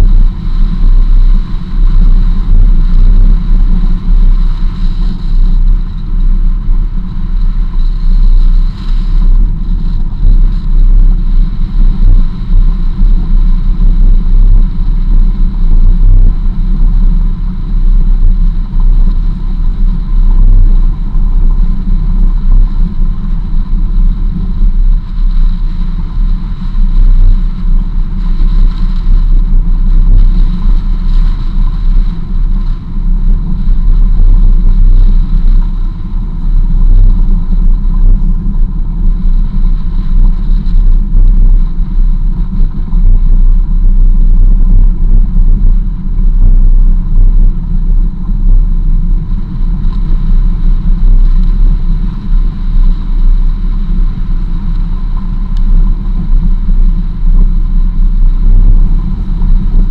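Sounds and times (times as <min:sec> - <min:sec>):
engine rumble: 0:00.0 - 0:59.9
wind buffeting: 0:00.0 - 0:59.9.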